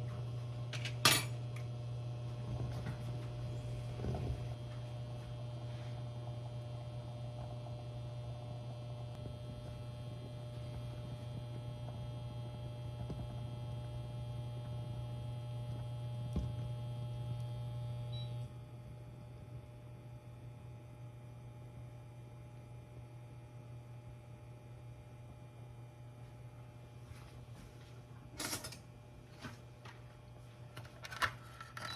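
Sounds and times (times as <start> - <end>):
household appliance humming: 0.0 - 25.9.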